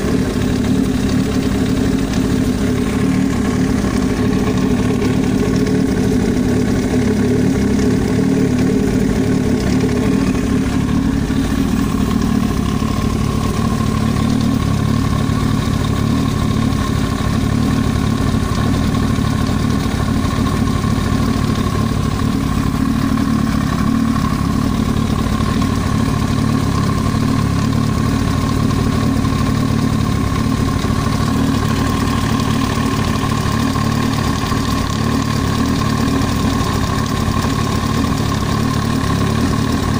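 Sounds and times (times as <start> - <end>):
engine knocking noise: 0.0 - 39.9
motorcycle engine idling: 0.0 - 39.9.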